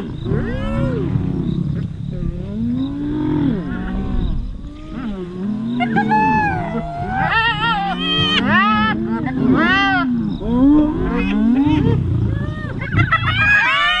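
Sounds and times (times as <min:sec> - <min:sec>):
animals moaning calls: 0:00.0 - 0:14.0.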